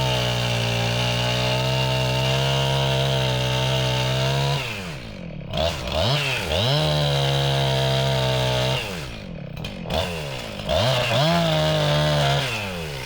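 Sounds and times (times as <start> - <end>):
chainsaw revving and cutting wood: 0.0 - 13.0.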